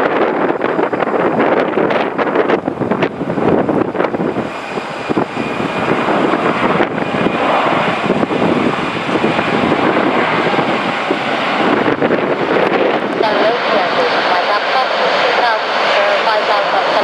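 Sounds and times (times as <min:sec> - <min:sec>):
jet engine roar passing overhead: 0:00.0 - 0:17.0.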